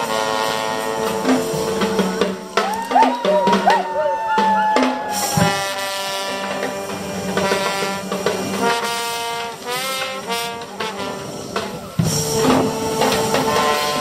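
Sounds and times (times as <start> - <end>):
brass marching band playing: 0.0 - 14.0.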